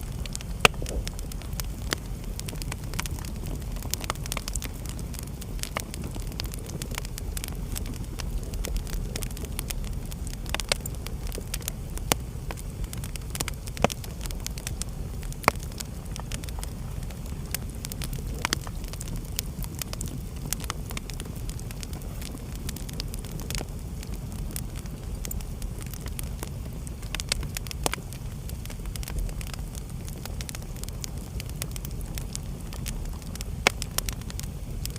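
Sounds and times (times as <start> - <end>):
low rumble of flame: 0.0 - 34.9
wood fire crackling and popping: 0.0 - 34.9.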